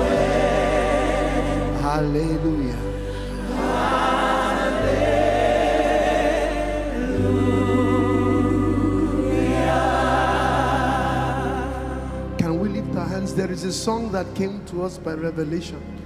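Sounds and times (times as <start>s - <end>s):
gospel choir singing: 0.0s - 13.5s.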